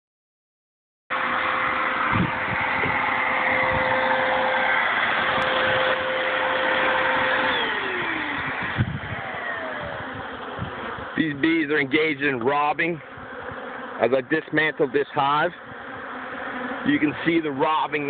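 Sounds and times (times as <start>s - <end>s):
honey bees buzzing: 1.2s - 18.0s.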